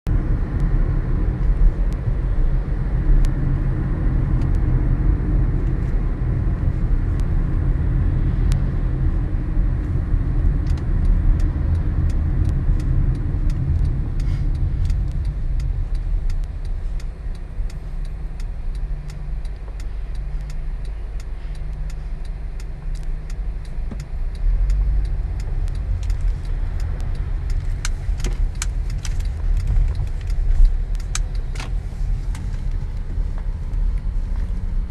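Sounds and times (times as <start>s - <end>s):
car engine low rumble: 0.0s - 34.9s
light ticks: 4.3s - 4.8s, 5.6s - 34.9s.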